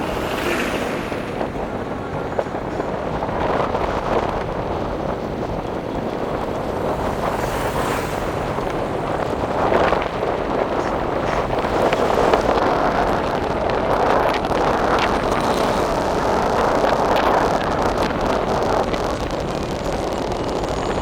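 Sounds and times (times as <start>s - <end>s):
moving vehicle running noise: 0.0s - 21.0s
wind buffeting microphone: 0.0s - 21.0s.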